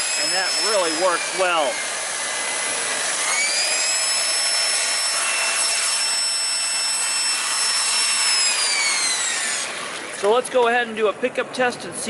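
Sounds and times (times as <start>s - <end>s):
vacuum cleaner running: 0.0s - 10.3s.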